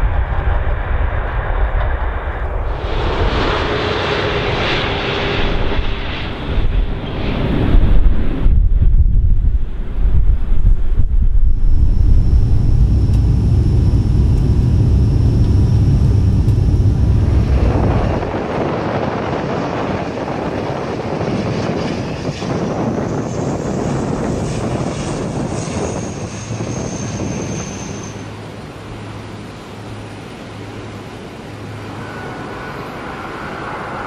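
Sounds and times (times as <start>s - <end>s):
aircraft engines droning in cabin: 0.0s - 34.0s
high whine: 0.0s - 34.0s
propeller and engine noise outside: 0.0s - 34.0s.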